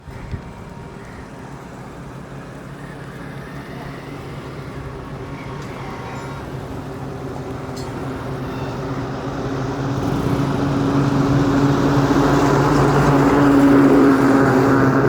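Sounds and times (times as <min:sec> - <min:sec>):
passing traffic hum: 0:00.0 - 0:15.0.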